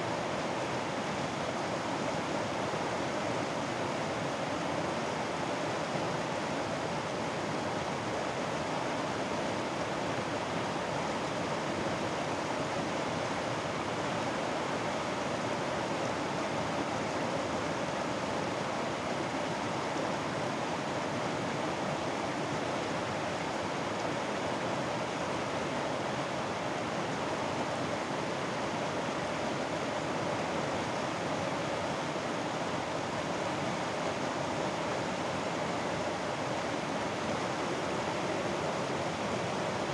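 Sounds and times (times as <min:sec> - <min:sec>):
stream rushing over rocks: 0:06.7 - 0:39.9.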